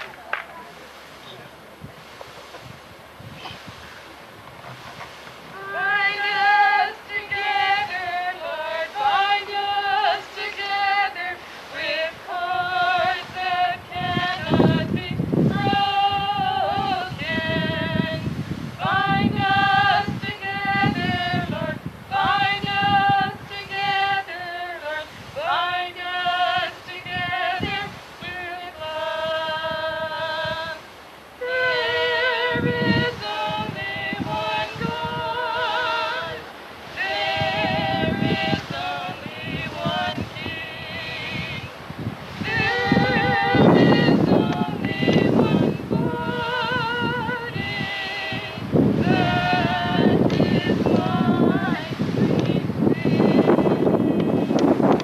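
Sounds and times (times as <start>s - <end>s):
wind rumbling on microphone: 0.0s - 55.0s
woman singing slow song: 5.4s - 55.0s.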